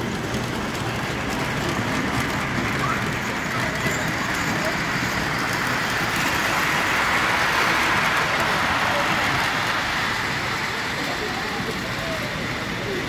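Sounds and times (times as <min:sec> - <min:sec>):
crowd murmur: 0:00.0 - 0:13.0
model train whirring on track: 0:00.0 - 0:13.0.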